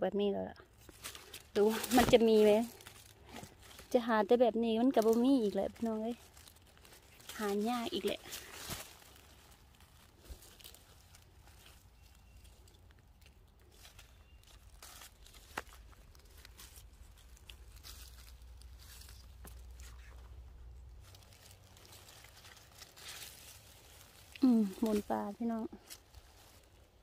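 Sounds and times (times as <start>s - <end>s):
rustling of dry leaves: 0.6s - 27.0s.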